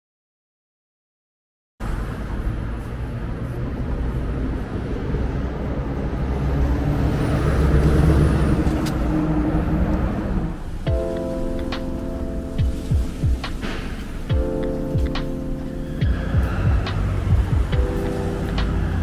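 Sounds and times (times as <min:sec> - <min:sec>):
passing cars rumbling: 0:01.8 - 0:19.0.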